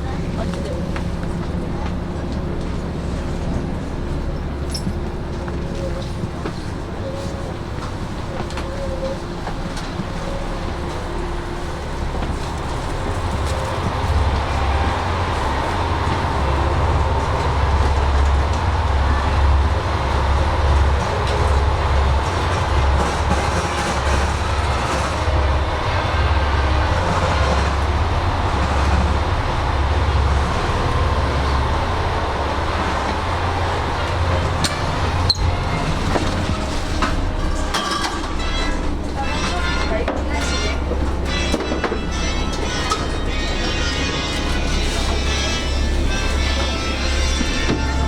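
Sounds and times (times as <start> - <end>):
diesel railcar engine idling: 0.0 - 48.0.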